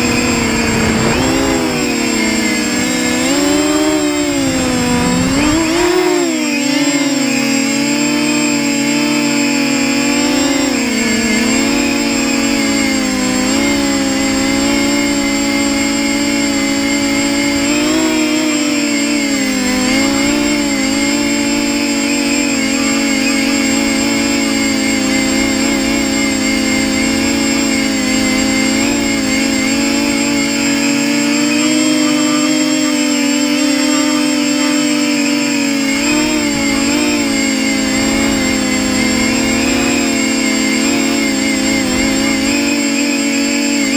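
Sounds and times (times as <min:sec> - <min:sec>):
quadcopter motors whining: 0:00.0 - 0:43.9.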